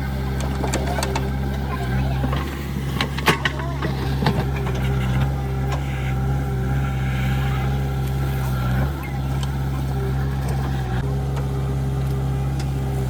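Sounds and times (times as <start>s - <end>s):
heavy diesel engine under load: 0.0s - 13.0s.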